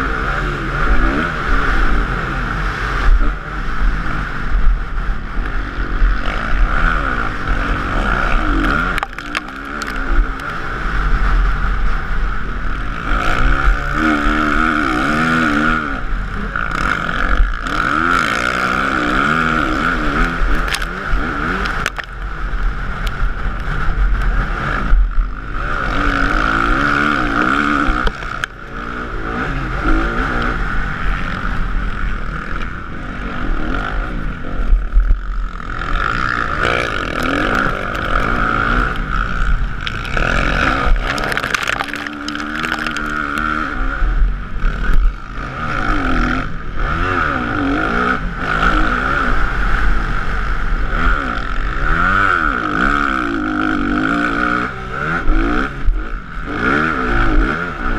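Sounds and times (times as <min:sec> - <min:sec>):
motocross bike engine revving: 0:00.0 - 0:57.9.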